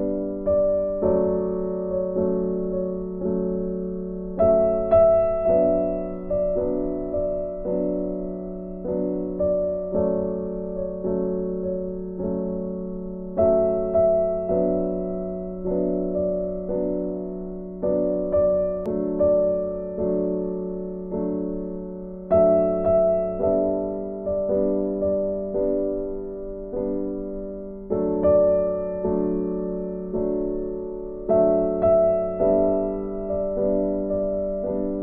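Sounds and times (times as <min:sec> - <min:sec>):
slow piano chords: 0:00.0 - 0:35.0.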